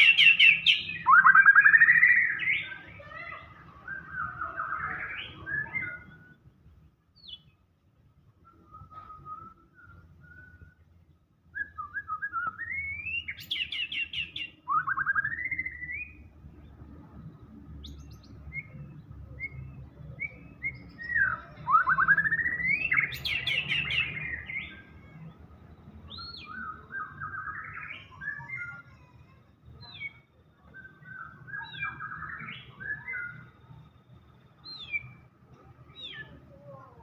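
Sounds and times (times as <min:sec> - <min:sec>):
songbird whistles and trills: 0:00.0 - 0:36.4.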